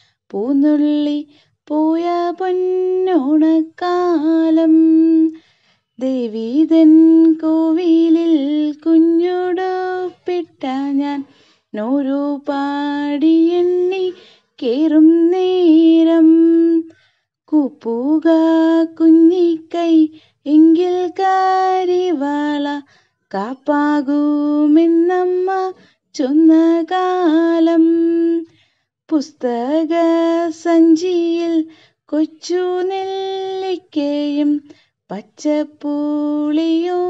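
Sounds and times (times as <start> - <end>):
woman singing unaccompanied: 0.3 - 28.5, 29.1 - 37.0.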